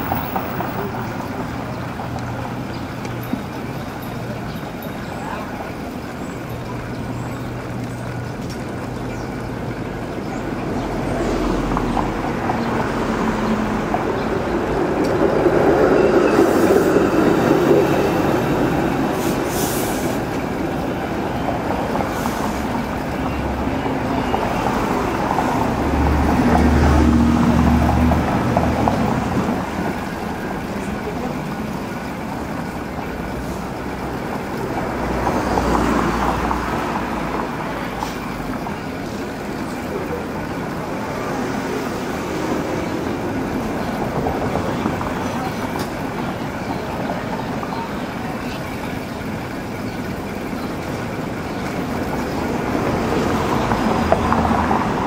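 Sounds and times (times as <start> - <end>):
passing city traffic: 0.0 - 55.0.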